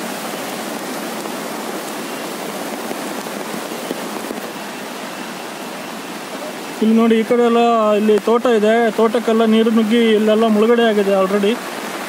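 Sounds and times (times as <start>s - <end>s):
rain falling: 0.0s - 12.0s
river rushing: 0.0s - 12.0s.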